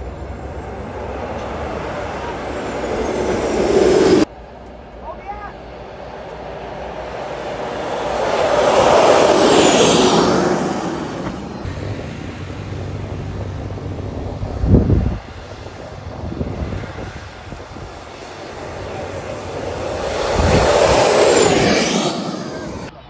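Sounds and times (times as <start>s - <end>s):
jet flying past: 0.0s - 23.0s.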